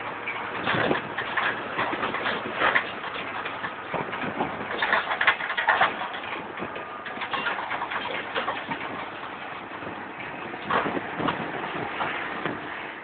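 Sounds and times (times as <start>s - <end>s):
mechanical rattle and knocks: 0.0s - 12.8s
tractor pulling seed planter: 0.0s - 13.0s.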